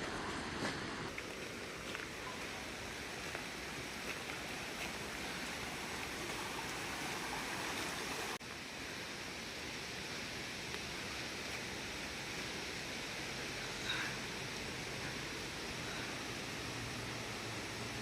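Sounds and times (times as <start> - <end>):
waterfall rushing: 1.2 - 18.0.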